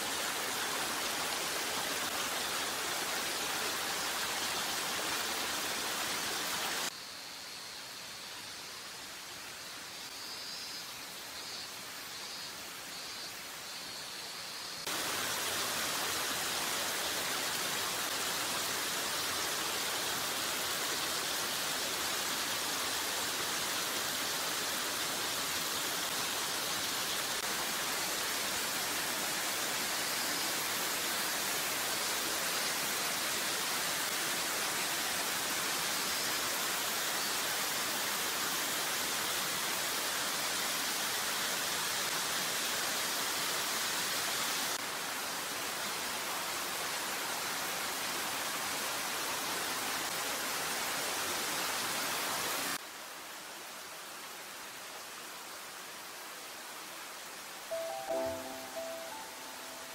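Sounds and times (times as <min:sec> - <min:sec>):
waterfall rushing over rocks: 0:00.0 - 0:07.0, 0:14.8 - 0:59.9.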